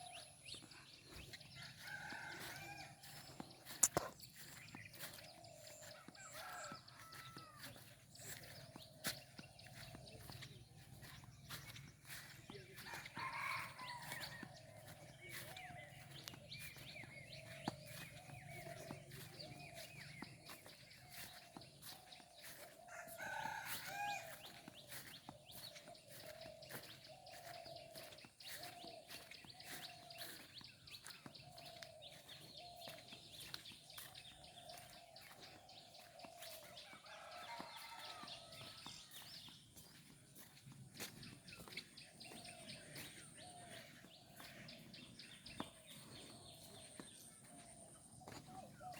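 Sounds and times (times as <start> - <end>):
birds calling: 0.0 - 48.9.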